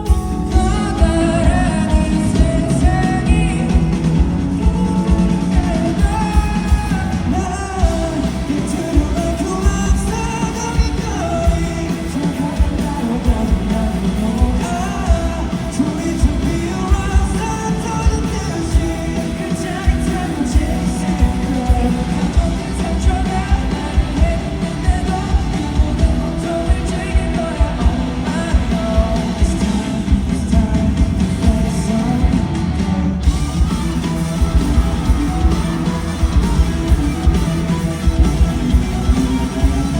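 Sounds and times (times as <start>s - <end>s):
driving drum beat: 0.0s - 39.9s
electric guitar: 0.0s - 39.9s
person singing: 0.0s - 39.9s.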